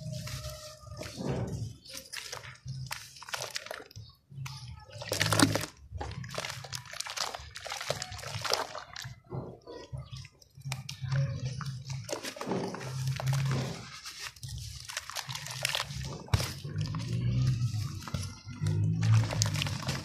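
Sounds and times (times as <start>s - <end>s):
hands squelching wet paste: 0.0s - 20.0s
muddy water splashing: 2.2s - 4.0s, 4.9s - 20.0s.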